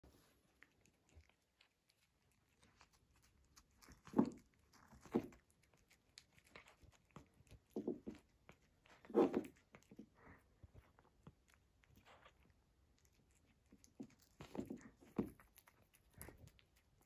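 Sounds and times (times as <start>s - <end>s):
kitten chewing and biting: 0.1s - 17.0s.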